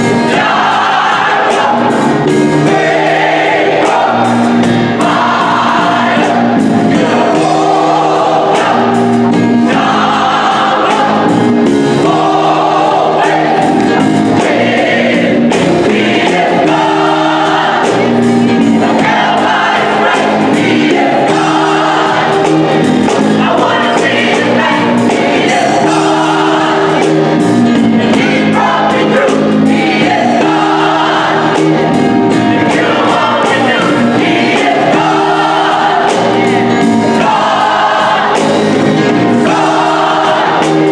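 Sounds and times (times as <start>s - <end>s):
gospel choir singing: 0.0s - 40.9s.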